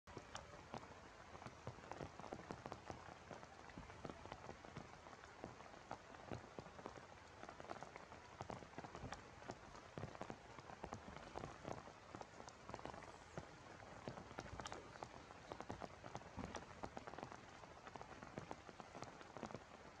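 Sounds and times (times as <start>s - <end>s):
rain falling: 0.1s - 20.0s
raindrops striking close by: 0.1s - 20.0s.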